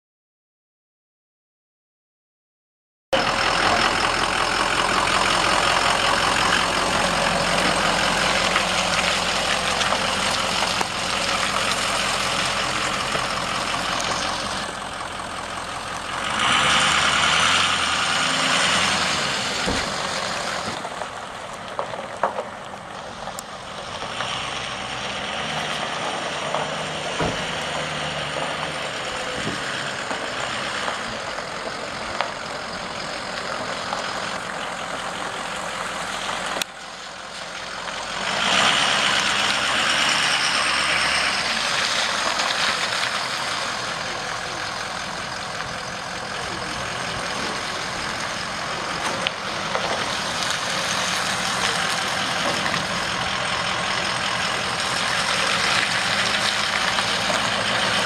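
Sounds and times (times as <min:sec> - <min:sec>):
diesel truck engine running: 0:03.1 - 0:58.0.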